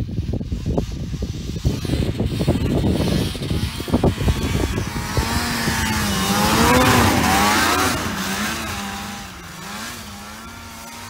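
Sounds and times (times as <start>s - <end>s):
snowmobile engine passing by: 0.0s - 11.0s.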